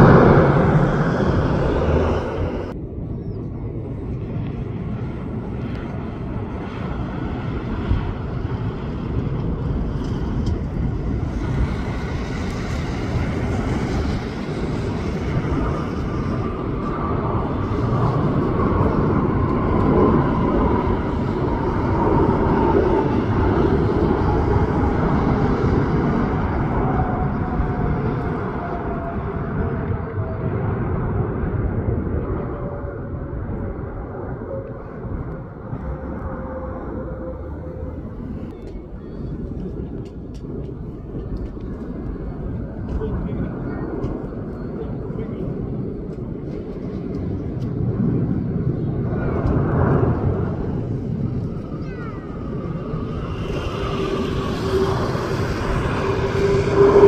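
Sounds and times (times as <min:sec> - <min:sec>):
faint engine whine: 0:00.0 - 0:57.0
jet engines rumbling: 0:00.0 - 0:57.0.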